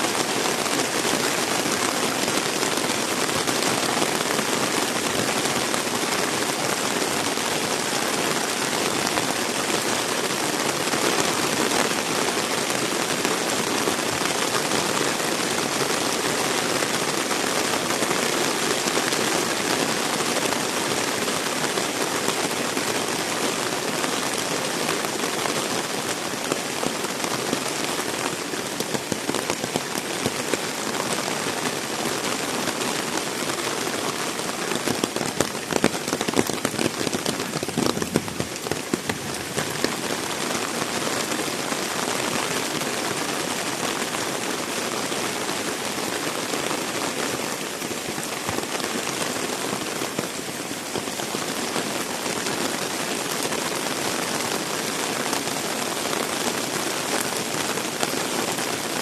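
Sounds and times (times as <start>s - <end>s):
close raindrops spattering: 0.0s - 59.0s
heavy rain falling: 0.0s - 59.0s.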